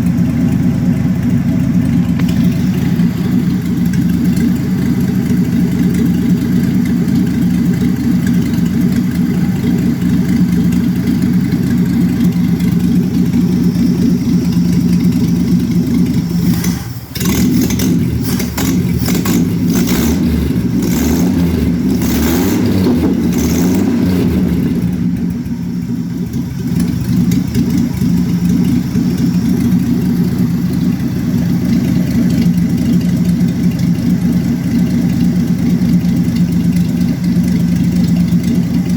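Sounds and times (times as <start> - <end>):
car engine rough idle: 0.0 - 38.9.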